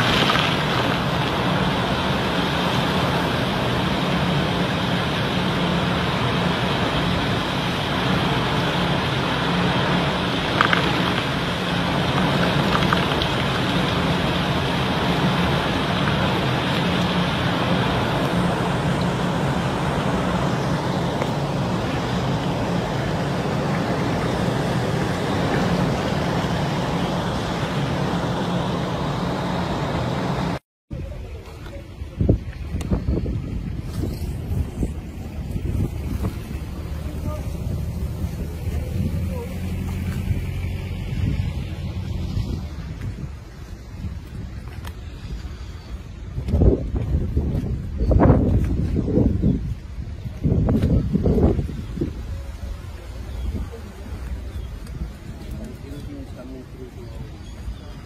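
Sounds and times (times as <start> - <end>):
heavy rain: 0.0 - 58.0
strong storm wind: 0.0 - 58.0.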